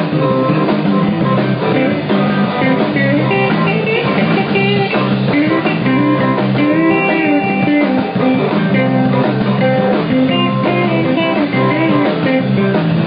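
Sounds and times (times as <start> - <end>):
lead guitar bending notes: 0.0 - 13.0
live rock band playing: 0.0 - 13.0.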